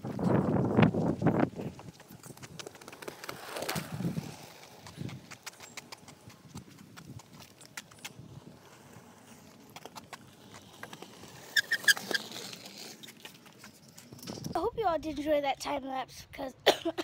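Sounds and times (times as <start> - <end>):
scooter wheels clattering on concrete: 0.0 - 14.7.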